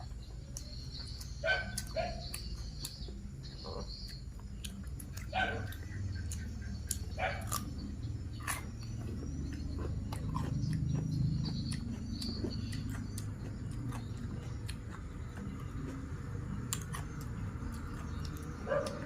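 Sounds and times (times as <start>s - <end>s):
steady low hum: 0.0s - 19.0s
wet chewing and mouth clicks: 0.0s - 19.0s.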